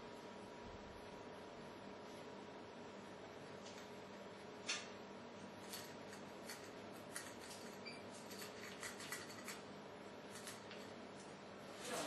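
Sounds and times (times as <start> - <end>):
low hiss and hum: 0.0 - 12.0.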